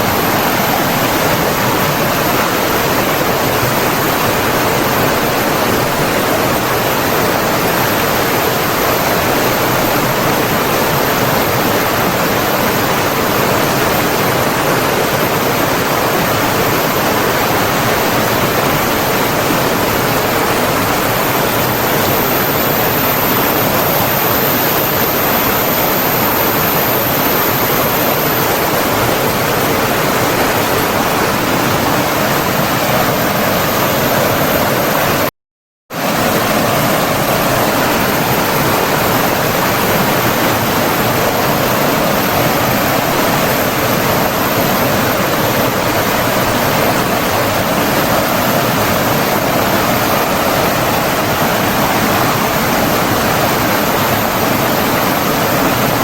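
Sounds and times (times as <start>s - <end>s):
running water rushing: 0.0s - 35.3s, 36.0s - 56.0s.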